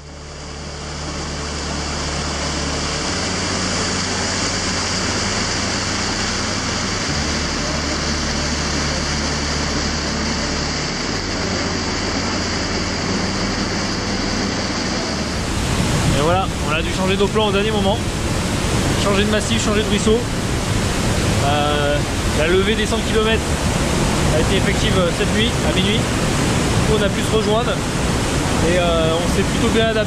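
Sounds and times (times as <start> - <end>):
rushing water of a torrent: 0.0 - 30.0.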